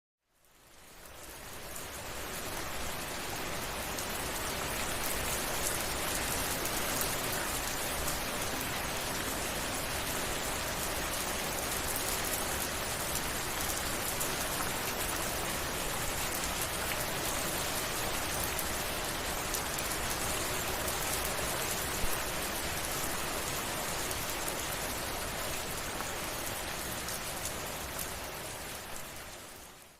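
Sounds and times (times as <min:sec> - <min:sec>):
steady rain falling: 0:00.2 - 0:29.9.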